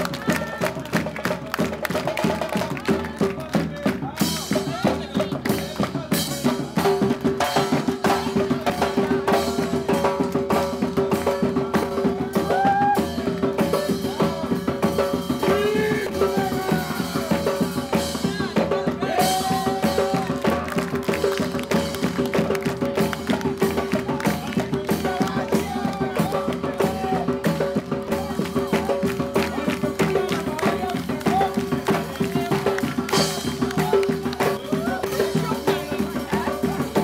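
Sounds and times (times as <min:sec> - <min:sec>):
drum-led percussion music: 0:00.0 - 0:37.0.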